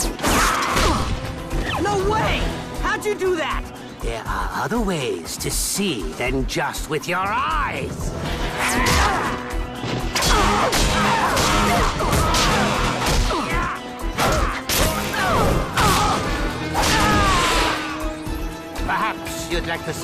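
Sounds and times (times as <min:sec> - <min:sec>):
action music: 0:00.0 - 0:20.0.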